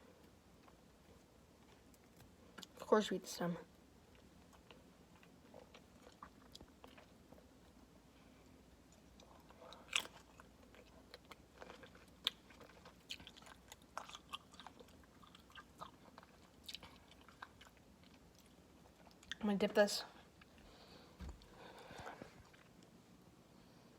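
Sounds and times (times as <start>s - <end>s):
person chewing grapes: 0.1s - 2.8s, 4.0s - 19.4s, 20.2s - 23.0s.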